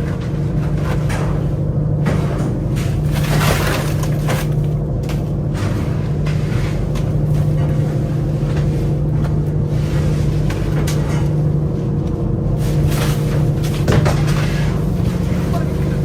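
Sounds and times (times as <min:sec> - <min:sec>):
knocks and clatter on board: 0:00.0 - 0:09.6, 0:12.7 - 0:16.0
boat engine running: 0:00.0 - 0:16.0.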